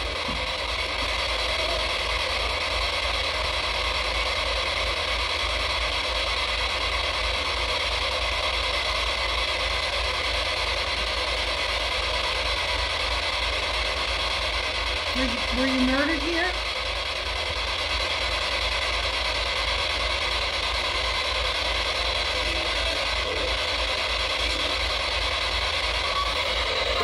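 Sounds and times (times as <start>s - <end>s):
radio static with choppy flutter: 0.0s - 27.0s.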